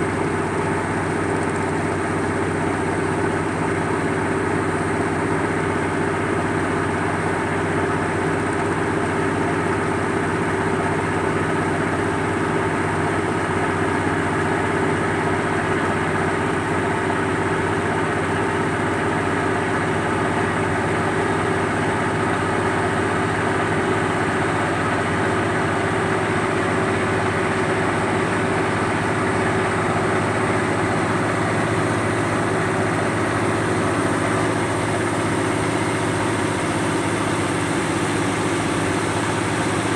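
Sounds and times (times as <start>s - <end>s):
boat engine running steadily: 0.0s - 39.9s.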